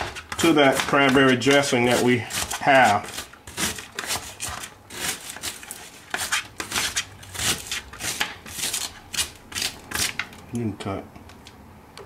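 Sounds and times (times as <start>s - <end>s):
knife chopping onion on board: 0.0s - 10.2s.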